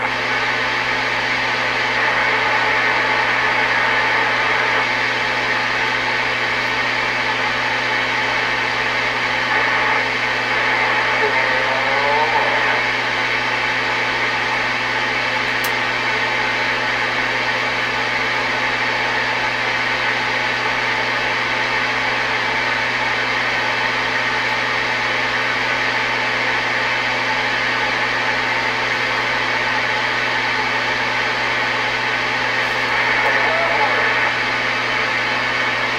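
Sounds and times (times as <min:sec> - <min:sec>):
radio static hiss: 0:00.0 - 0:35.9.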